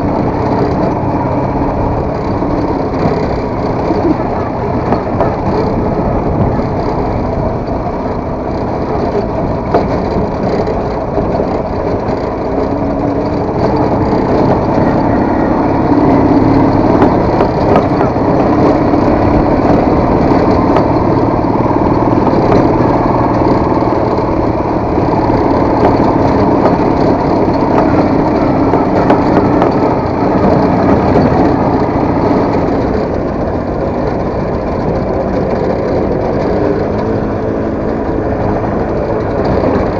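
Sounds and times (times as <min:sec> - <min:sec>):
motorcycle engine running: 0:00.0 - 0:39.9
road and rattle noise: 0:00.0 - 0:39.9.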